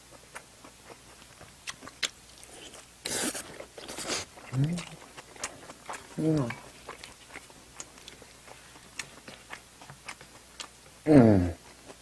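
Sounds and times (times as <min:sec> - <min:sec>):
person chewing food: 0:00.0 - 0:11.0, 0:11.6 - 0:12.0.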